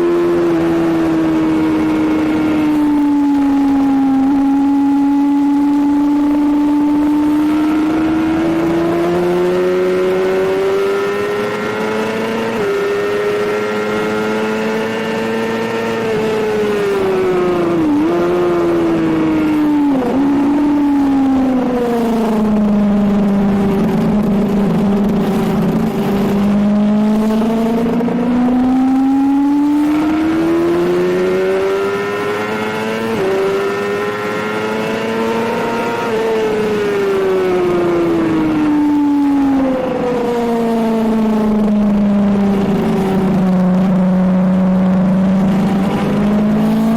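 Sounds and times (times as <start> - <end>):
sport bike engine accelerating: 0.0 - 46.9.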